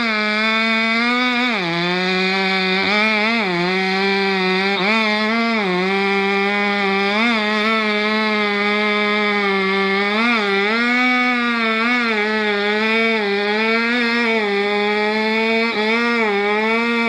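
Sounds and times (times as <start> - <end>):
chainsaw cutting under load: 0.0 - 17.0.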